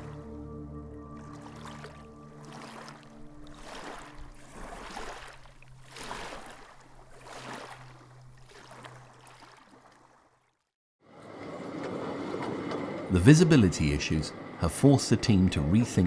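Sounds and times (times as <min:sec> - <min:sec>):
water washing in swells: 0:01.1 - 0:16.0.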